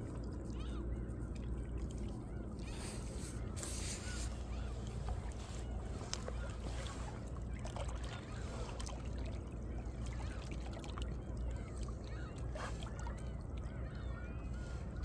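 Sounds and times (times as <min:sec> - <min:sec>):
water gurgles and splashes: 0:00.0 - 0:15.0.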